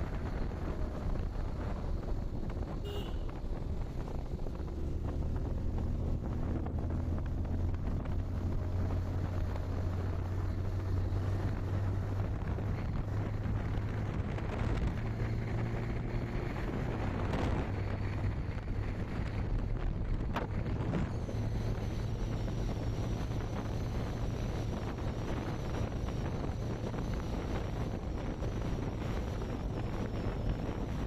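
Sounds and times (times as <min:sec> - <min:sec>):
motorcycle engine running: 0:00.0 - 0:31.0
wind noise on microphone: 0:00.0 - 0:31.0.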